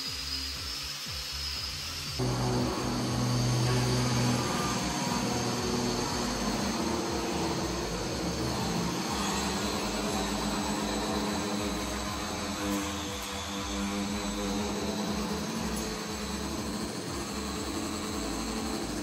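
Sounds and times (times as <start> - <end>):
electric sander sanding wood: 0.0 - 19.0.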